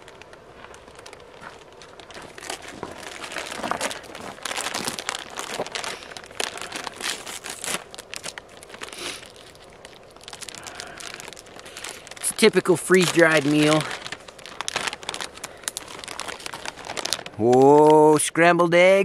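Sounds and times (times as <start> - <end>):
foil pouch crinkling: 0.0 - 18.2.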